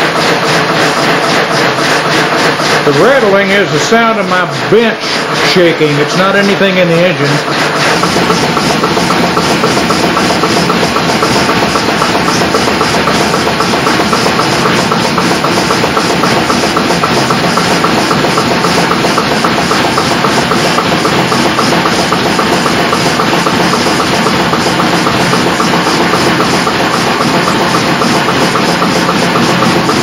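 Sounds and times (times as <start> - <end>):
diesel engine running: 0.0 - 30.0
workbench rattling: 0.0 - 30.0.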